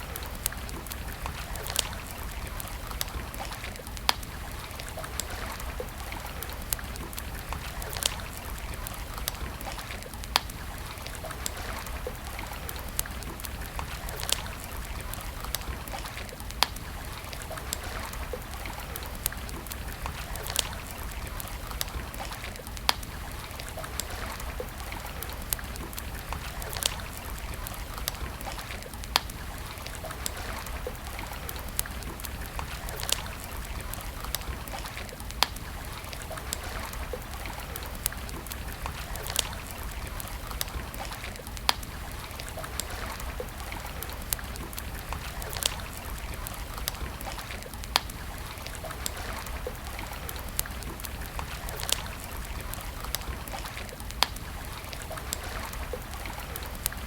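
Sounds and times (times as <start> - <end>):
campfire burning: 0.0 - 57.0.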